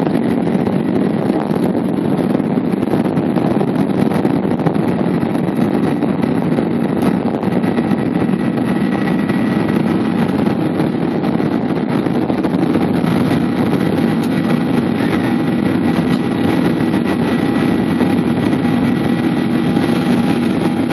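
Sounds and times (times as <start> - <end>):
jet engines roaring in cabin: 0.0 - 20.9
thin engine whine: 0.0 - 20.9.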